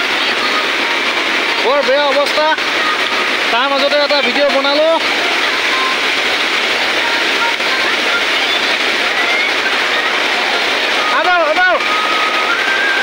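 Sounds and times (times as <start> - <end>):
floodwater rushing: 0.0 - 13.0
heavy downpour: 0.0 - 13.0.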